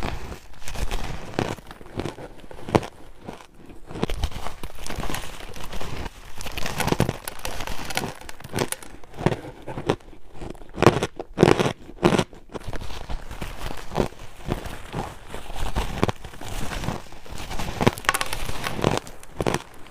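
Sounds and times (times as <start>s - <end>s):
ice being bitten and chewed: 0.0s - 19.9s.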